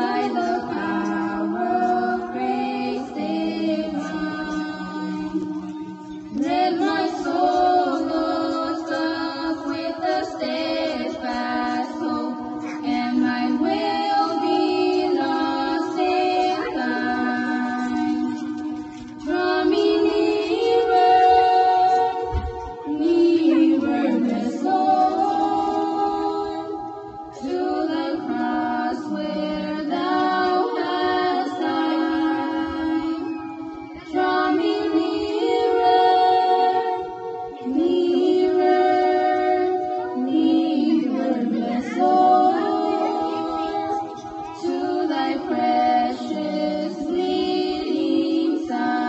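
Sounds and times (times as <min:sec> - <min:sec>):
women singing a hymn: 0:00.0 - 0:49.0.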